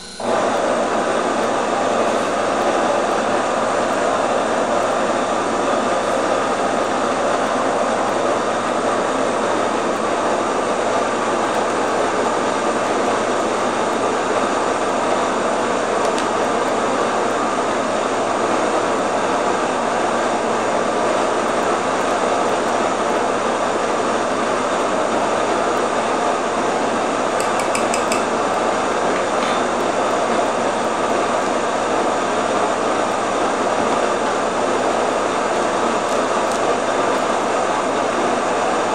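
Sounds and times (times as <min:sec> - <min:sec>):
electric grain mill grinding: 0:00.0 - 0:38.9.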